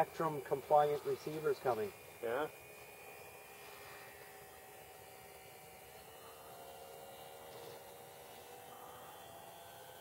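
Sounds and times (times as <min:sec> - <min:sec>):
model airplane motor whine: 0:00.0 - 0:10.0.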